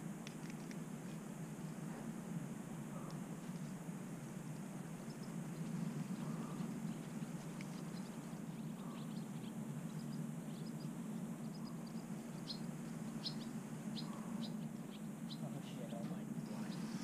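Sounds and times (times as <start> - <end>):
steady low rumble: 0.0 - 17.0
small birds chirping: 0.1 - 17.0.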